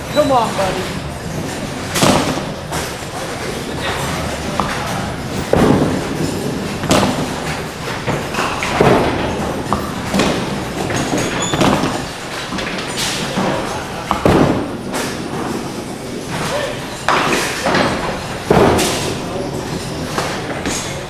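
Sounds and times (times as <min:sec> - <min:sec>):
bowling balls thudding and clattering: 0:00.0 - 0:21.0
steady alley rumble: 0:00.0 - 0:21.0
balls knocking into pins: 0:00.8 - 0:21.0.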